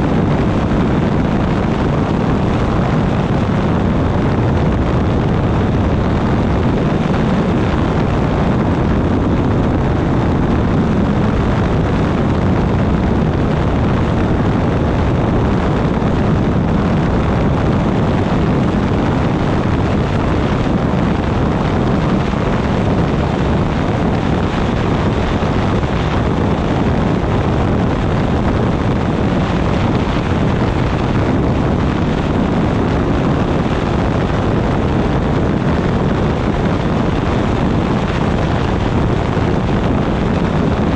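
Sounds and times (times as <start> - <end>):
engine and propeller drone: 0.0 - 40.9
wind rush on microphone: 0.0 - 40.9.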